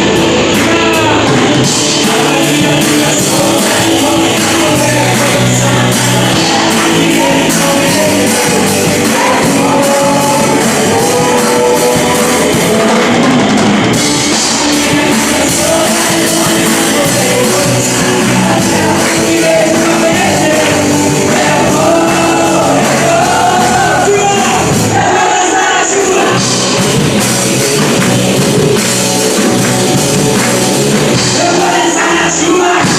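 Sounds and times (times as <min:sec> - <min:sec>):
person singing: 0:00.0 - 0:28.5, 0:30.2 - 0:32.9
drum kit: 0:00.0 - 0:32.9
live rock band playing: 0:00.0 - 0:32.9.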